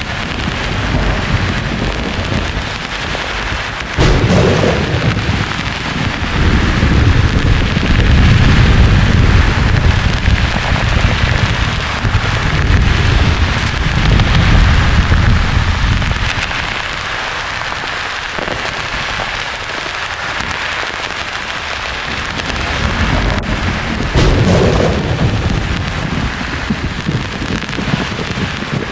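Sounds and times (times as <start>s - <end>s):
thunder rumbling: 0.0s - 17.8s, 21.7s - 28.9s
rain hiss: 0.0s - 28.9s.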